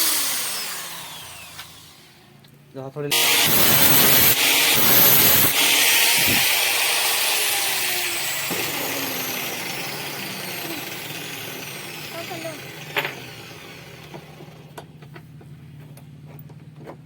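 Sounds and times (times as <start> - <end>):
electric drill whining: 0.0 - 2.4, 3.1 - 14.8.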